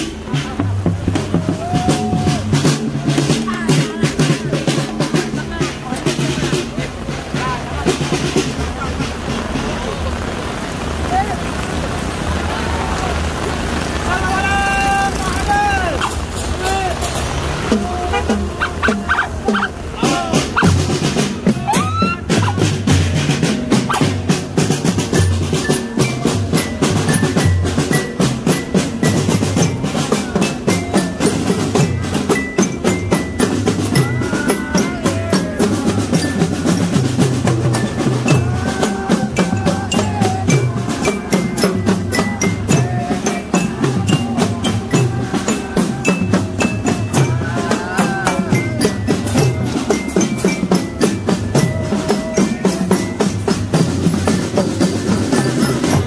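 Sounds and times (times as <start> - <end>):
snare and bass drums playing: 0.0 - 11.8, 13.1 - 56.0.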